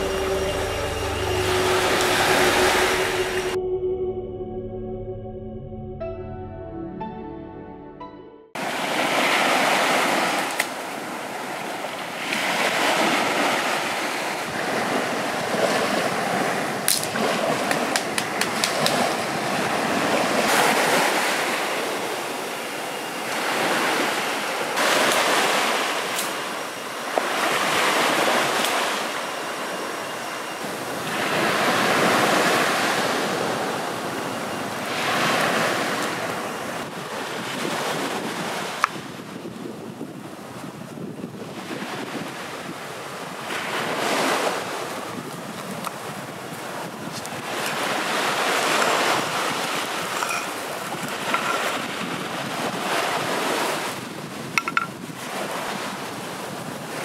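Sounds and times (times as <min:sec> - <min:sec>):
waves breaking on sandy shore: 0:08.6 - 0:57.0.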